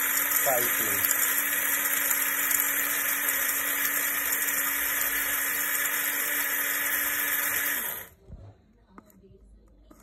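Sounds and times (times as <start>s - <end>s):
electric grinder grinding rice: 0.0s - 8.2s.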